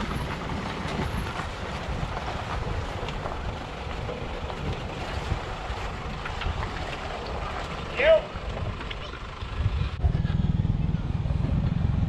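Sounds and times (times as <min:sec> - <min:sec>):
motorboat engine rumble: 0:00.0 - 0:12.0
wind buffeting microphone: 0:00.0 - 0:12.0.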